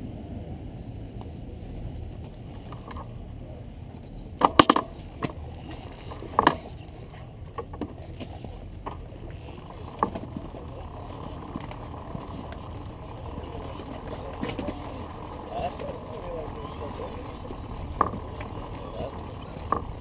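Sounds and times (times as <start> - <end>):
motorcycle rumbling: 0.0 - 20.0
wind: 0.0 - 20.0.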